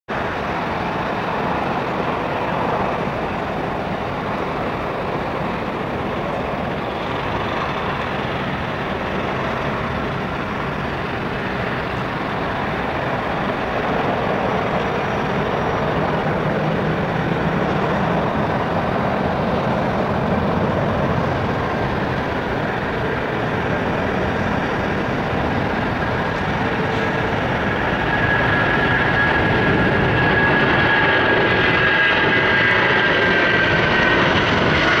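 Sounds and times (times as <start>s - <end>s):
jet engines running: 0.1s - 35.0s.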